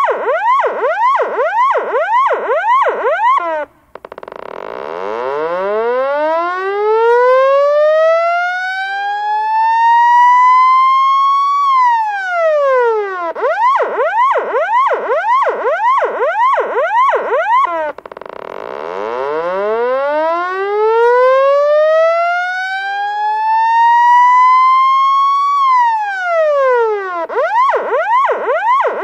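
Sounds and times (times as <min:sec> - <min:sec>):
electronic police siren: 0:00.0 - 0:29.0.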